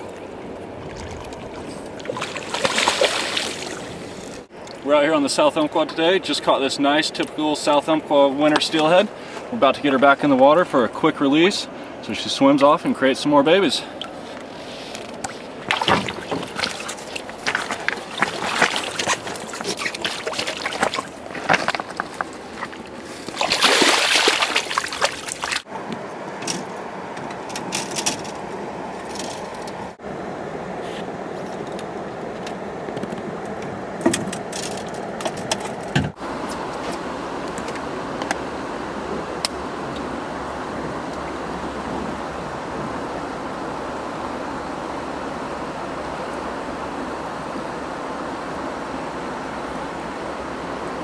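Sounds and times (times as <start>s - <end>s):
water splashing and sloshing: 0.0s - 13.2s, 13.8s - 30.0s, 30.8s - 51.0s.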